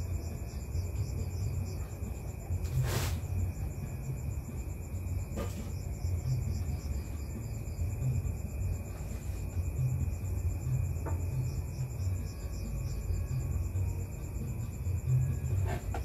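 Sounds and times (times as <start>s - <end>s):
night insects chirping: 0.0s - 16.0s.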